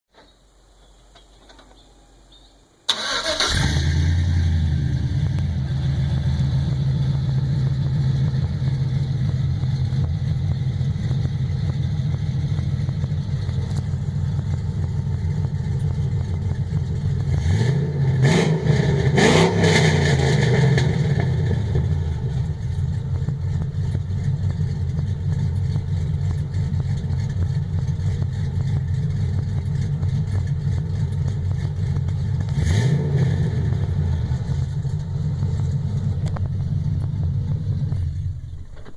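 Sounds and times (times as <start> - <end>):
engine revving: 2.9 - 38.5
pickup truck exhaust idling: 3.6 - 19.2, 20.0 - 38.9.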